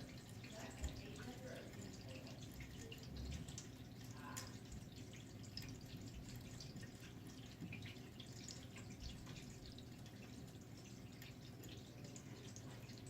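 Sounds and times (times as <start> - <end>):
low steady hum: 0.0 - 13.0
water dripping in plumbing: 0.0 - 13.0.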